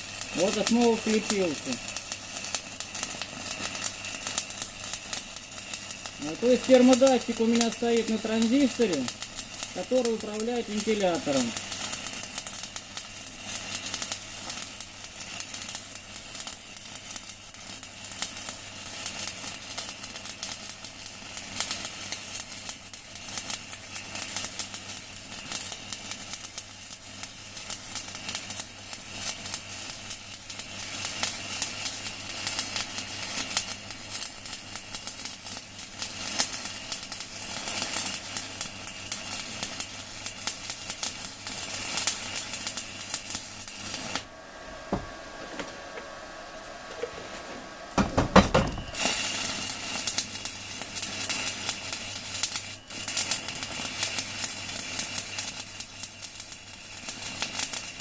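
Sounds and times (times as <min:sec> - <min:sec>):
welding arc crackling: 0:00.0 - 0:58.0.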